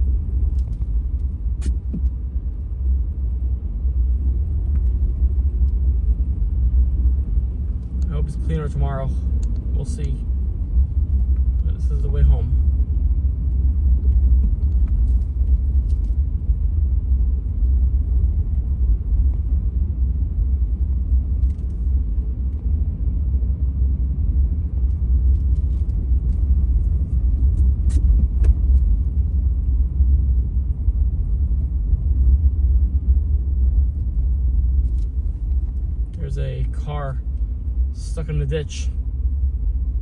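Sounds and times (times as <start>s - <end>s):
car driving on snowy road: 0.0s - 40.0s.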